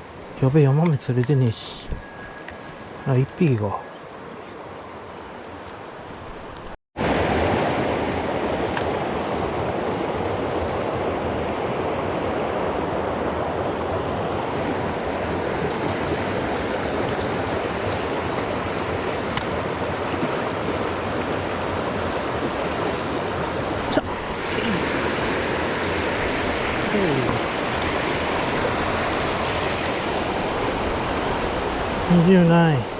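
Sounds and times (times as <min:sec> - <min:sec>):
mountain stream water rushing: 0:00.0 - 0:32.9.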